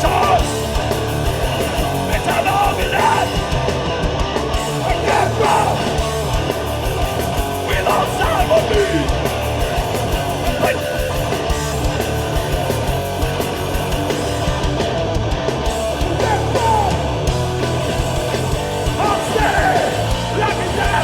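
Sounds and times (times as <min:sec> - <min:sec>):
bass guitar: 0:00.0 - 0:21.0
drums: 0:00.0 - 0:21.0
electric guitar: 0:00.0 - 0:21.0.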